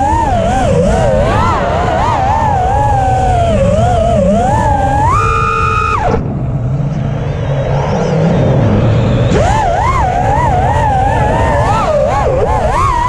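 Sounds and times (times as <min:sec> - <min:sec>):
low rumble: 0:00.0 - 0:12.7
drone motors whining: 0:00.0 - 0:13.0.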